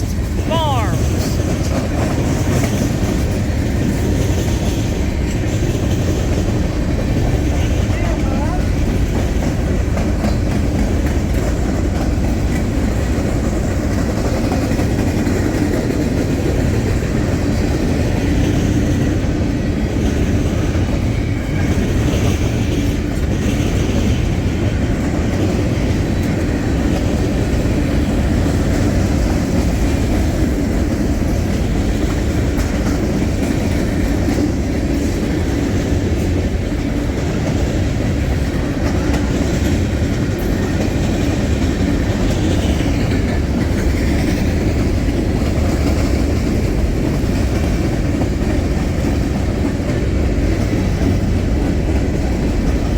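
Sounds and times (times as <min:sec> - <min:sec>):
freight train cars rumbling past: 0:00.0 - 0:52.9.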